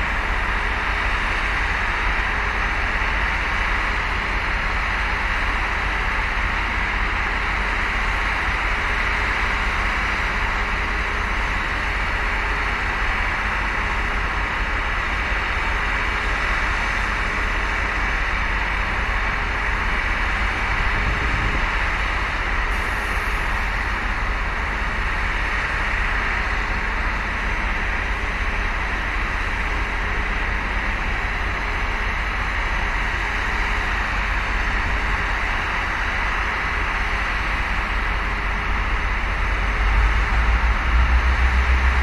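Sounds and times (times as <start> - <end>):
diesel locomotive idling: 0.0 - 42.0.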